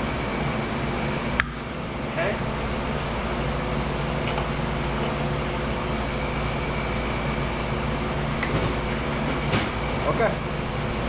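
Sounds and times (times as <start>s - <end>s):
electric motor and pump humming: 0.0s - 11.0s.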